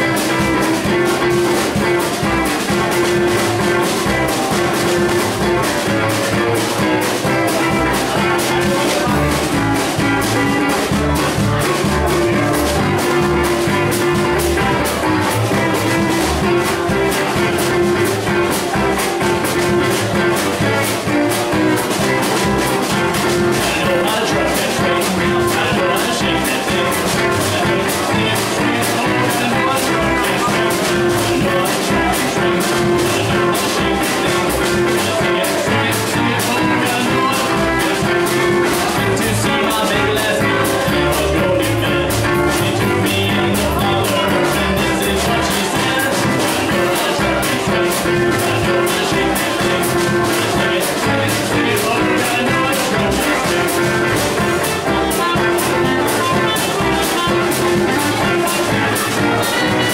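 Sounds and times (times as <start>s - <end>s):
clarinet melody: 0.0s - 59.9s
drums keeping a beat: 0.0s - 59.9s
plucked upright bass: 0.0s - 59.9s
strummed acoustic guitar: 0.0s - 59.9s.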